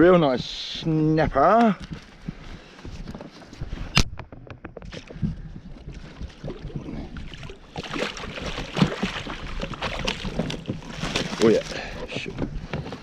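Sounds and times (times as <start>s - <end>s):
knocks and clicks on hull: 1.5s - 13.0s
water sloshing around kayak: 1.8s - 13.0s.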